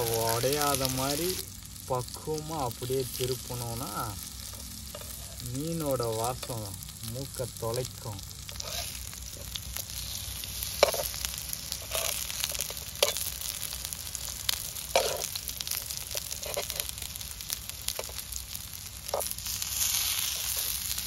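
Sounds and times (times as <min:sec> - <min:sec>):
plantain slices sizzling in oil: 0:00.0 - 0:21.0.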